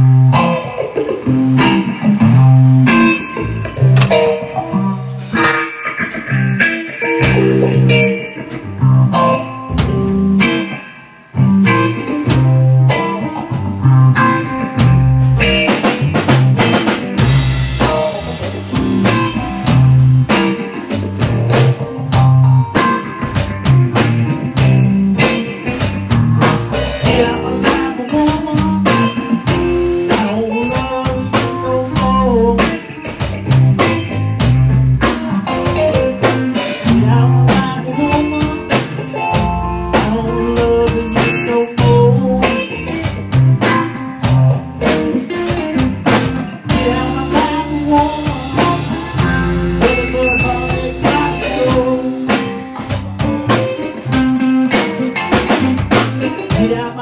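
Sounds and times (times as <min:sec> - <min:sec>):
blues guitar and drums: 0:00.0 - 0:57.0.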